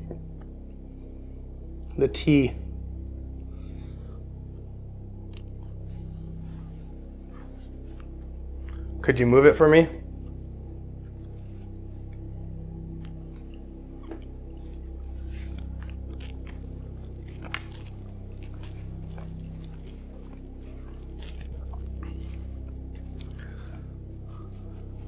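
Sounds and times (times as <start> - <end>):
low droning hum: 0.0 - 25.0.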